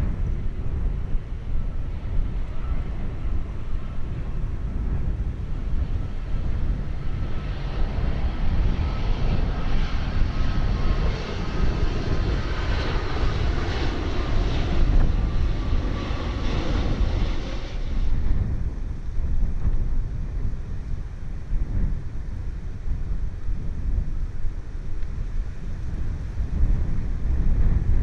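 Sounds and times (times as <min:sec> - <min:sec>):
jet airliner flying overhead: 0:00.0 - 0:28.0
wind rumble on microphone: 0:00.0 - 0:28.0.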